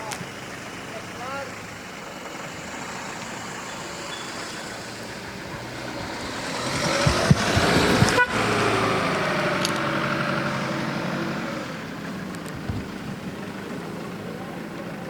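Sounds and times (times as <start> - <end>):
motor vehicle passing by: 0.9 - 14.5.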